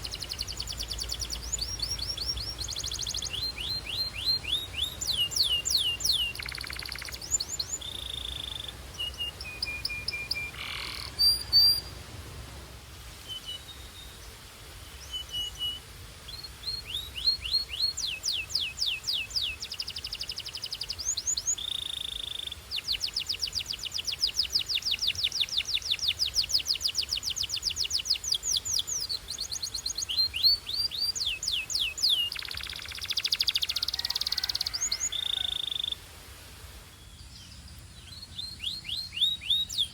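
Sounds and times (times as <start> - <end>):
canary singing: 0.0 - 11.9, 16.7 - 36.0, 37.6 - 39.9.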